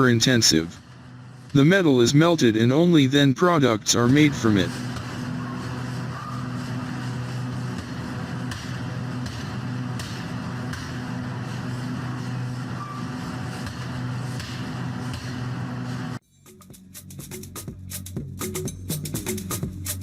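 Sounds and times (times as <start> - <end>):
workshop machinery hum: 0.0 - 16.2.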